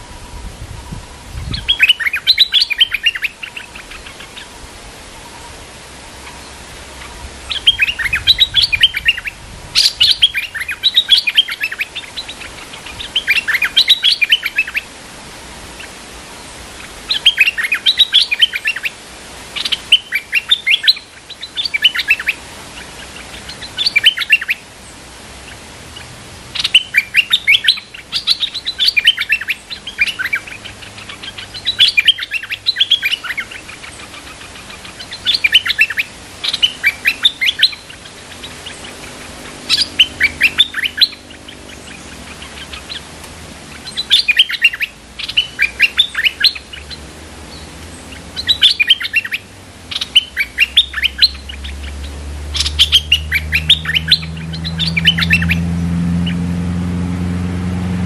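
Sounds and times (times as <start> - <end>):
bulbuls singing: 0.0 - 57.8.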